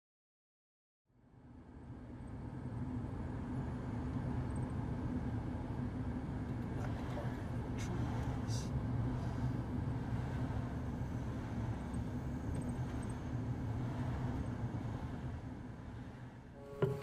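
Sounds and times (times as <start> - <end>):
low mechanical rumble with hum: 1.1 - 17.0.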